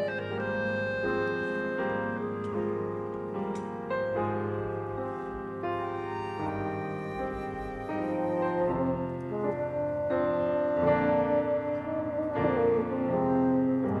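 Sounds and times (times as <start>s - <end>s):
chamber orchestra playing slow music: 0.0s - 14.0s
grand piano chords: 0.0s - 14.0s.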